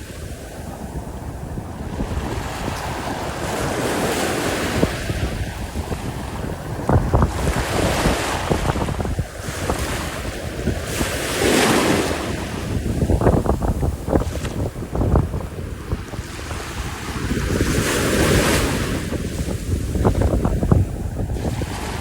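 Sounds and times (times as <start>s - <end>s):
sea waves washing ashore: 0.0s - 22.0s
wind buffeting microphone: 0.0s - 22.0s.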